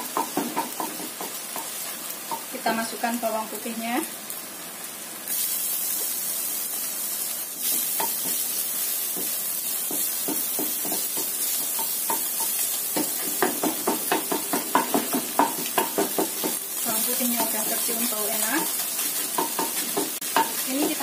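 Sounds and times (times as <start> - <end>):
garlic and egg sizzling: 0.0 - 21.0.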